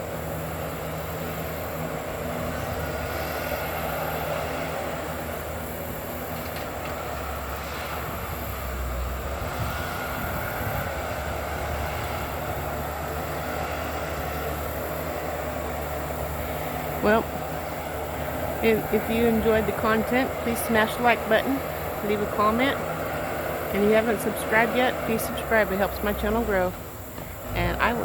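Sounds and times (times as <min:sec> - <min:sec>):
bulldozer diesel engine droning: 0:00.0 - 0:28.0.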